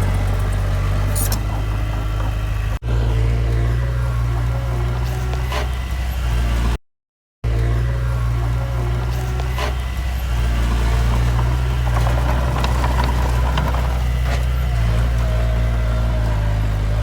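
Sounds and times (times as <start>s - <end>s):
diesel engine droning: 0.0s - 6.8s, 7.4s - 17.0s.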